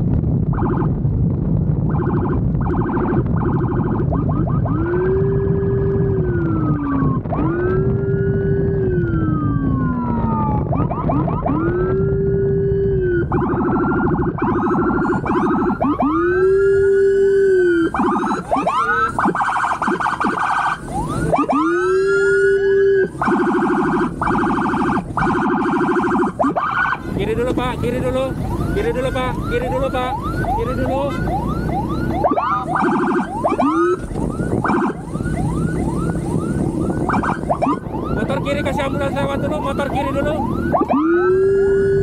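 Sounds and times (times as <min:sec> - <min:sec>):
motorcycle engine and road noise: 0:00.0 - 0:42.0
electronic siren wailing: 0:00.2 - 0:42.0.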